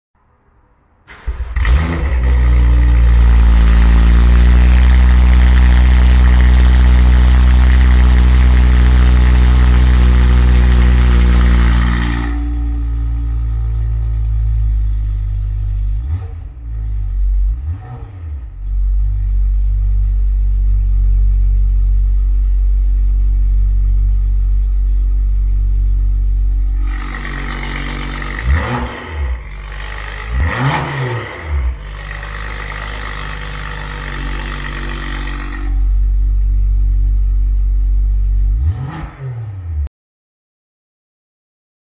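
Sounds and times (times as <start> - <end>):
car engine idling and revving: 1.1 - 39.9.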